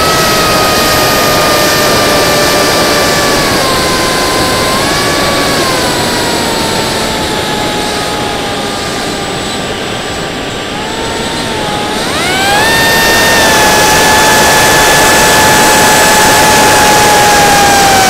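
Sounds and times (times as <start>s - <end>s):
electric motor propeller whine: 0.0s - 18.0s
wind rush: 0.0s - 18.0s.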